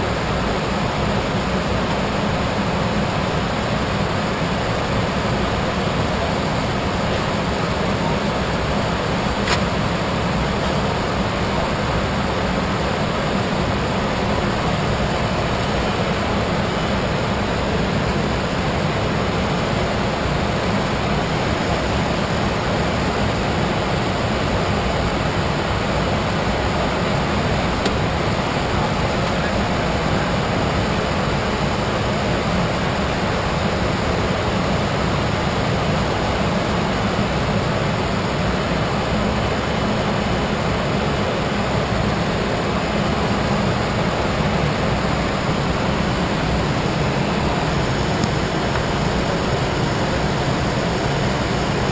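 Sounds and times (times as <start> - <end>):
airflow rushing: 0.0 - 51.9
jet engine noise: 0.0 - 51.9.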